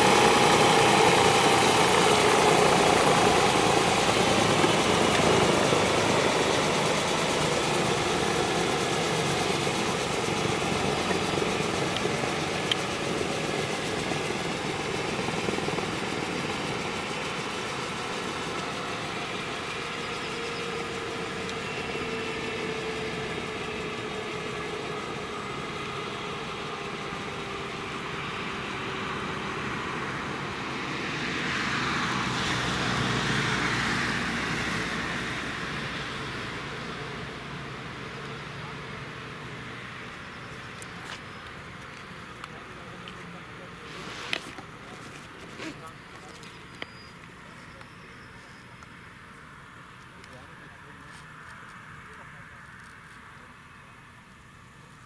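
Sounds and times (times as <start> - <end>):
helicopter turbines winding down: 0.0 - 55.0.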